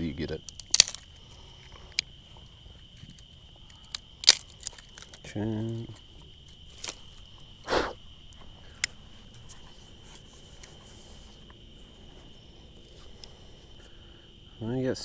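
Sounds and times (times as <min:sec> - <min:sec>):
cricket chorus chirring: 0:00.0 - 0:15.0.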